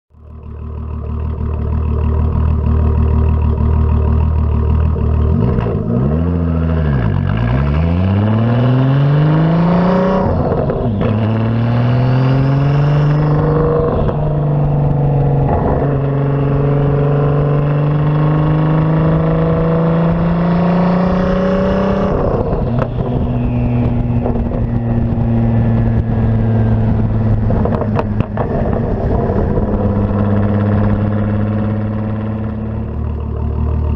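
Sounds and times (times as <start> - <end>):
car engine revving: 0.4 - 33.9.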